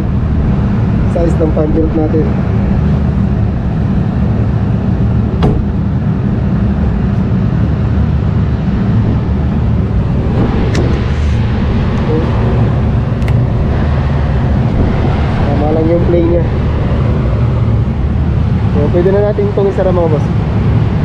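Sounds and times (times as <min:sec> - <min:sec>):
low machinery rumble: 0:00.0 - 0:21.0.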